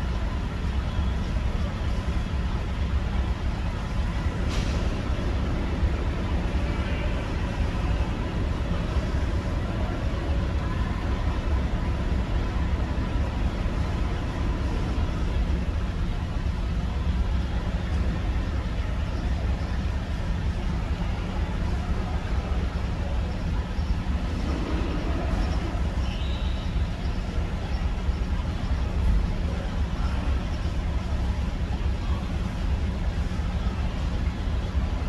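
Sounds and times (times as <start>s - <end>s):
van engine rumble: 0.0s - 35.0s.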